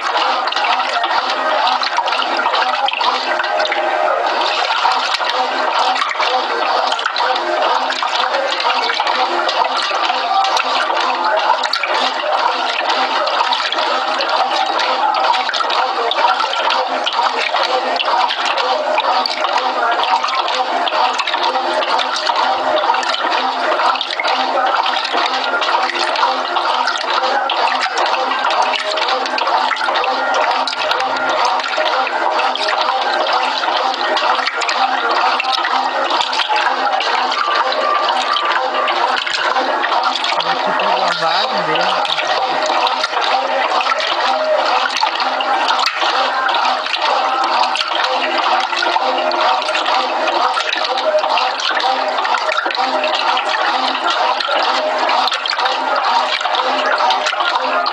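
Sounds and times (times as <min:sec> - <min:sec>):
washing machine sloshing water: 0:00.0 - 0:57.9.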